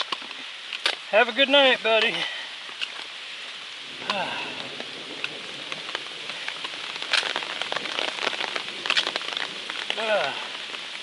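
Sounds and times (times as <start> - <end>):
rain drops striking: 0.0 - 11.0.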